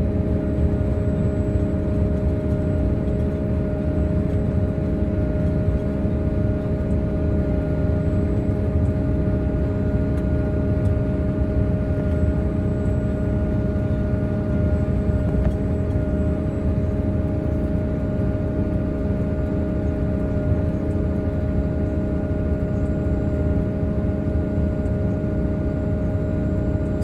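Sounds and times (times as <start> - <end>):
engine drone: 0.0 - 27.0
steady machine whine: 0.0 - 27.0.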